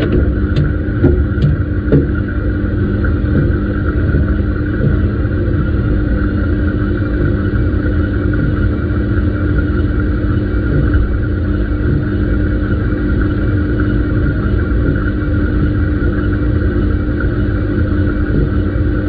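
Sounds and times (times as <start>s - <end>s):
washing machine running: 0.0s - 19.0s.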